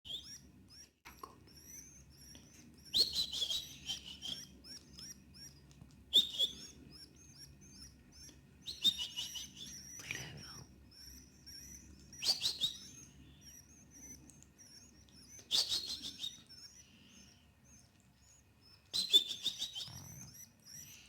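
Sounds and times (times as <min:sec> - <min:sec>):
chicks cheeping: 0:00.1 - 0:21.0.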